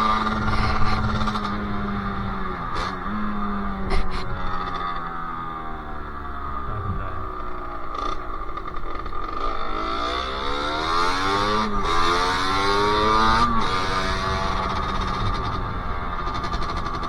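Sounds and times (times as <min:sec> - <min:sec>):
two-stroke engine accelerating: 0:00.0 - 0:17.0.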